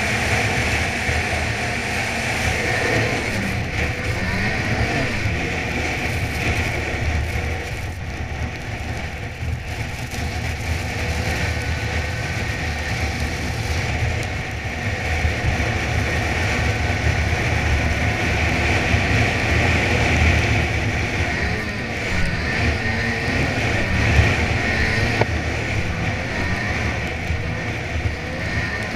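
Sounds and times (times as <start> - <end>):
snowmobile engine running: 0.0 - 28.9
wind rumble on microphone: 0.0 - 28.9.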